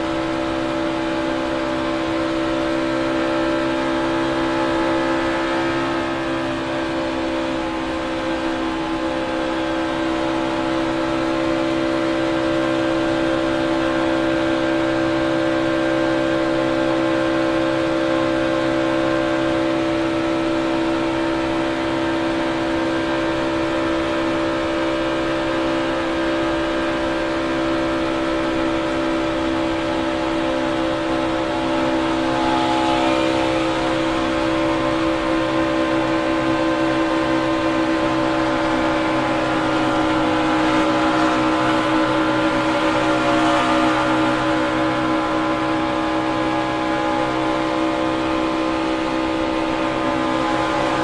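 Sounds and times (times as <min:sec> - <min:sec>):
race car engine at high speed: 0:00.0 - 0:51.0
wind and road noise: 0:00.0 - 0:51.0.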